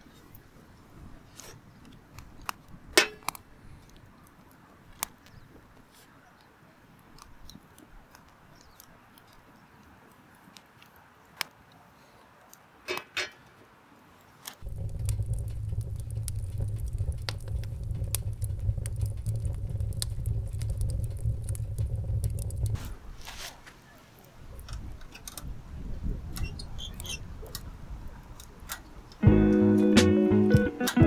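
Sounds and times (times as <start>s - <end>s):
firewood crackling and popping: 0.0s - 11.7s, 14.4s - 31.0s.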